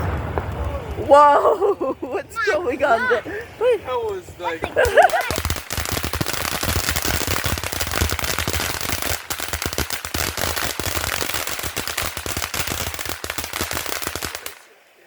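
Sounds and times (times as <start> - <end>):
firecrackers crackling: 0.0 - 14.8.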